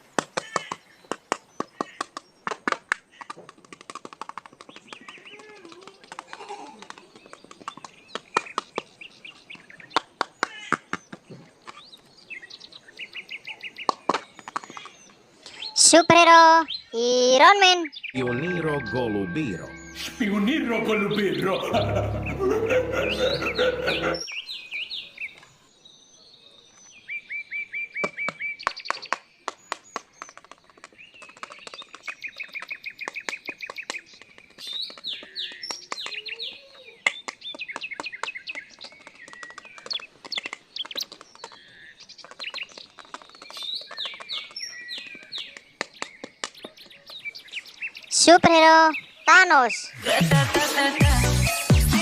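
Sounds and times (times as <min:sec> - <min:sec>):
birds chirping: 0:04.3 - 0:52.0.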